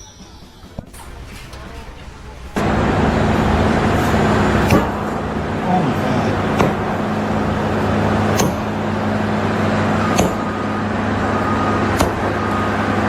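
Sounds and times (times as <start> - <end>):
sharp clacks: 0.8 - 13.0
low engine hum: 0.9 - 13.0.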